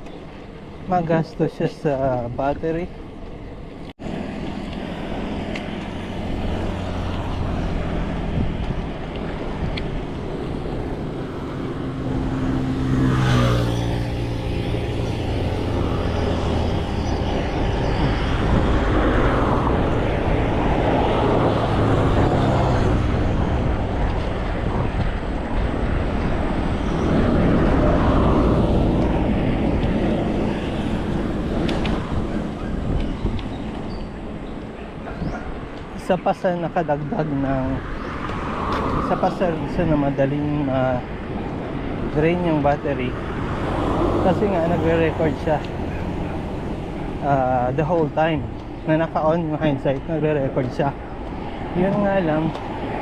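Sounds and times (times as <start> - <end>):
traffic: 0.0 - 53.0
wind and road noise: 0.0 - 53.0
motor vehicle passing: 3.6 - 53.0.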